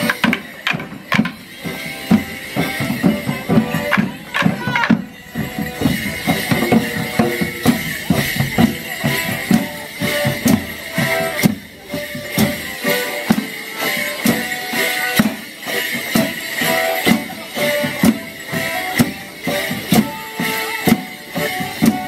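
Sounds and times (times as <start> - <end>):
driving drum beat: 0.0 - 22.0
folk band playing dance tune: 0.0 - 22.0.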